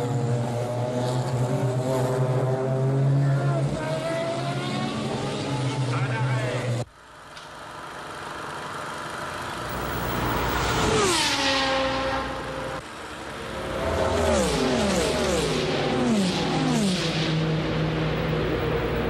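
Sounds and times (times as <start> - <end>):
race car engines passing: 0.0 - 6.9, 7.6 - 19.0.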